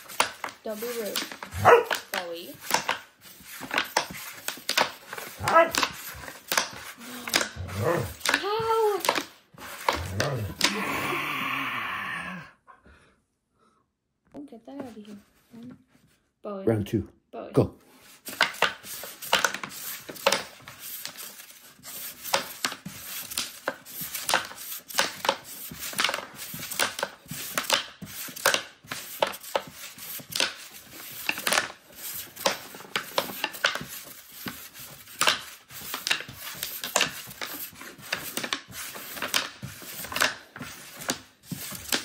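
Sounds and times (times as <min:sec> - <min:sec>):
wooden discs clacking: 0:00.0 - 0:11.0, 0:18.2 - 0:42.0.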